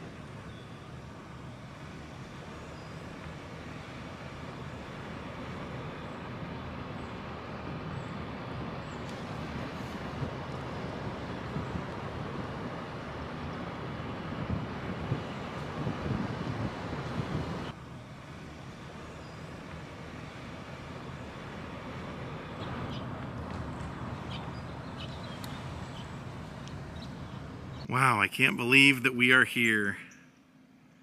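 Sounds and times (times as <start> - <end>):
car engine and tyre noise: 0.0 - 28.3.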